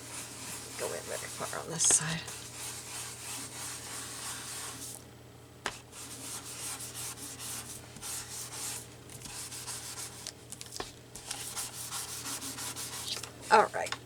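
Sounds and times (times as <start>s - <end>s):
ink tool scrubbing paper: 0.0s - 5.0s, 5.7s - 10.3s, 11.2s - 13.2s.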